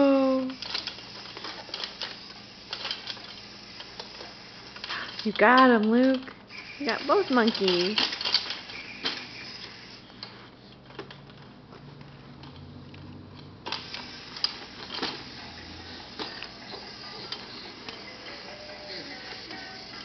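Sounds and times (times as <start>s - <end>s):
plastic toy clicks and rattles: 0.0s - 11.5s, 13.7s - 20.0s.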